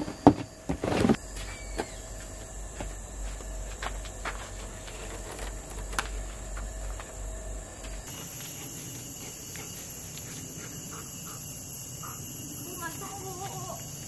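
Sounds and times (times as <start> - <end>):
insects shrilling: 0.0 - 14.0.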